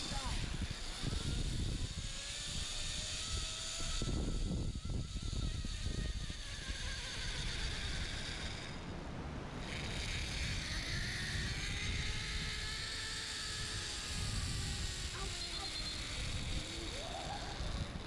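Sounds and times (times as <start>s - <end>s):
pulley rolling along steel cable: 0.0s - 18.0s
wind rumble on microphone: 0.0s - 18.0s.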